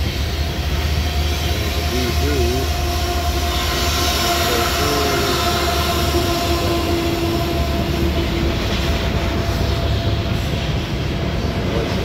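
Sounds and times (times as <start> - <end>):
diesel locomotive whine: 0.0 - 12.0
freight train wheels rumbling: 0.0 - 12.0.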